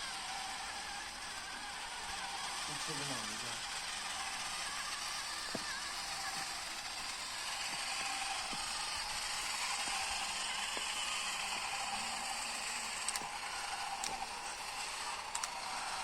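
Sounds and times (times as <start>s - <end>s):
small electric motor whirring: 0.0s - 16.0s.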